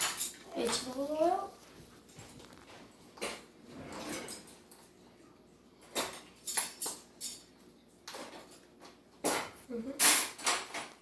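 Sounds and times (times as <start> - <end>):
utensils and dishes clinking: 0.0 - 1.5, 2.3 - 11.0.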